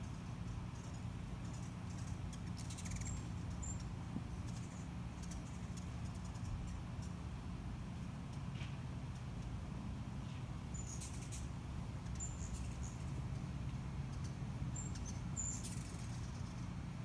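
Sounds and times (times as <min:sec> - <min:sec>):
hummingbird chip calls: 0:00.0 - 0:07.4, 0:10.6 - 0:17.0
steady low hum: 0:00.0 - 0:17.0.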